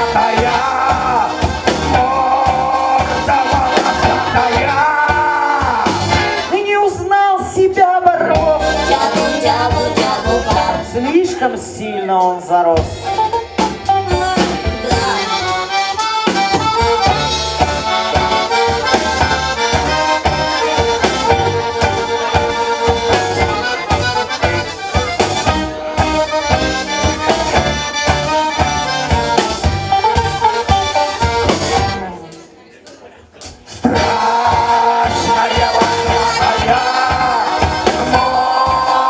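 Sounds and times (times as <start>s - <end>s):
instrumental song with beat and bass: 0.0s - 11.3s, 12.8s - 39.0s.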